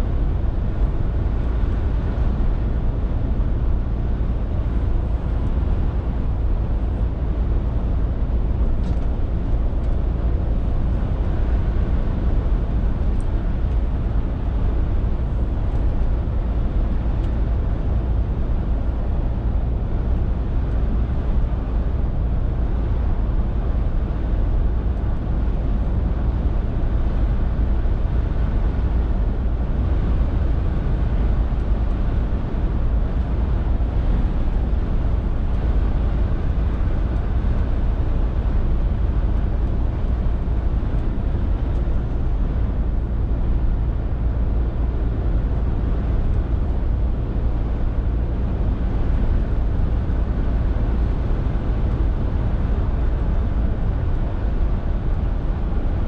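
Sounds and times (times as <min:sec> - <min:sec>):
lorry diesel engine drone: 0:00.0 - 0:56.0.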